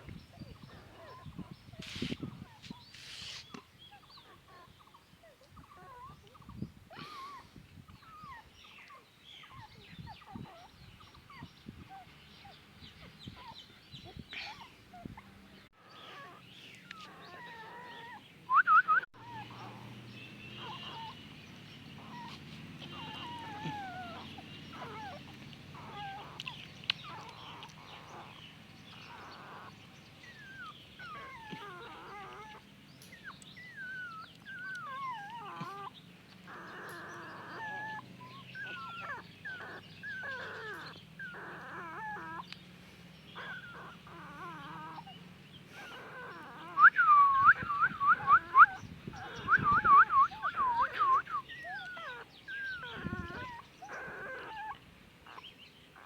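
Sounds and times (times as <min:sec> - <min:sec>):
puppies squealing and whimpering: 0:00.0 - 0:13.6, 0:15.8 - 0:18.3, 0:19.1 - 0:21.2, 0:21.9 - 0:42.5, 0:43.3 - 0:56.0.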